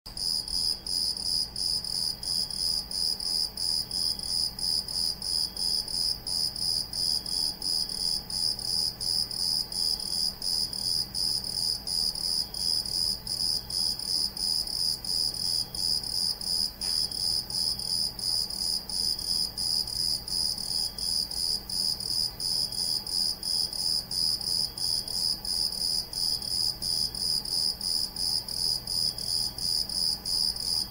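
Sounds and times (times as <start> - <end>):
cricket chirping: 0.1 - 30.9.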